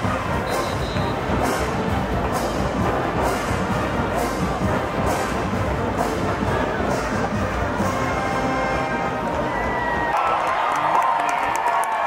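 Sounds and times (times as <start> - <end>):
marching band music: 0.0 - 9.8.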